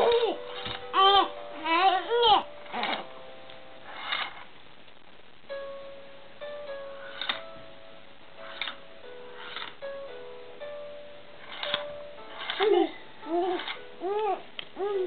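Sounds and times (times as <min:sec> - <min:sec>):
crib mobile playing a slow tune: 0:00.0 - 0:04.5, 0:05.5 - 0:15.0.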